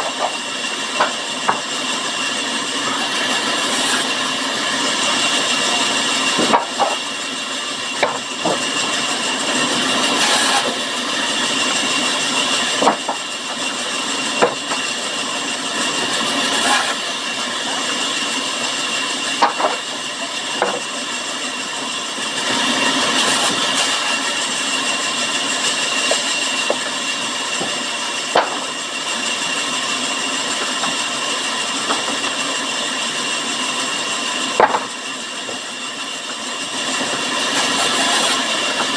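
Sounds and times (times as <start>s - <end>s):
saw whining through wood: 0.0s - 38.9s.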